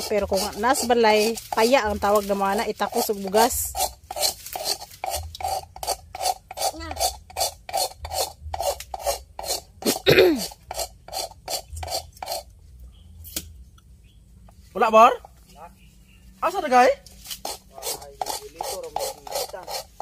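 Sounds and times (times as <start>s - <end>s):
coconut shell being scraped: 0.0s - 13.6s, 16.5s - 20.0s.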